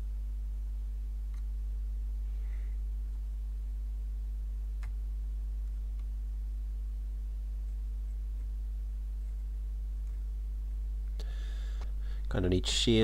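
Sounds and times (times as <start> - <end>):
low electrical mains hum: 0.0 - 13.0.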